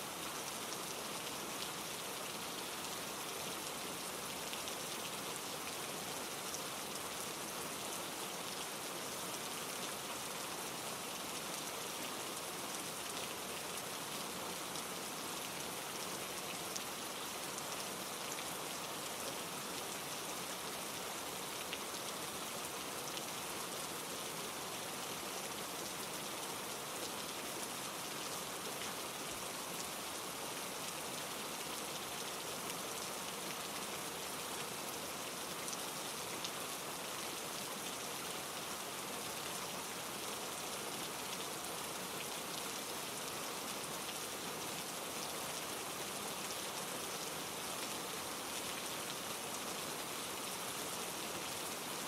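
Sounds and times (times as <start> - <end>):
rain falling: 0.0 - 52.0
stream running over rocks: 0.0 - 52.0.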